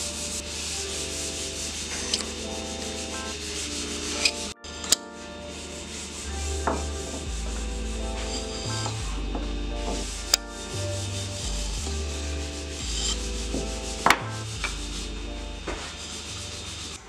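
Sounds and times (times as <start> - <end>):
marking gauge scratching wood: 0.0 - 4.6, 5.5 - 9.1, 9.8 - 17.0
instrumental background music: 0.0 - 17.0.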